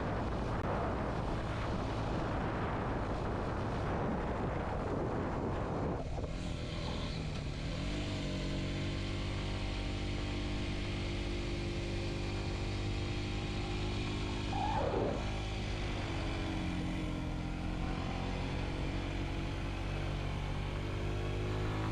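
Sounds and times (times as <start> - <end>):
noisy rush: 0.0 - 8.0, 11.5 - 21.9.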